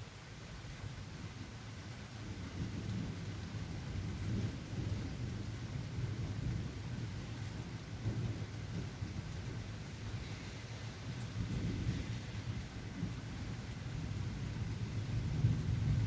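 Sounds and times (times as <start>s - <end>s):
rain hissing: 2.2s - 16.0s
rolling thunder rumble: 2.2s - 16.0s.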